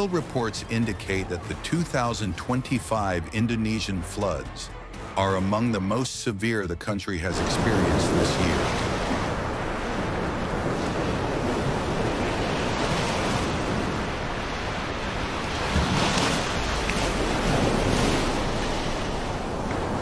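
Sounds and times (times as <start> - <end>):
rushing floodwater: 0.0 - 5.8, 6.6 - 20.0.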